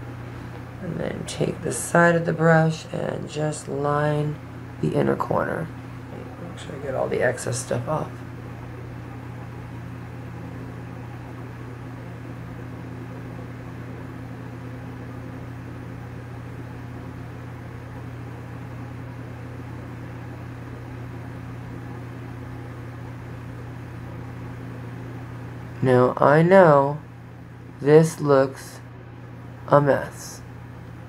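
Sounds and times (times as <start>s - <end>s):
low hum with faint hiss: 0.0s - 31.0s.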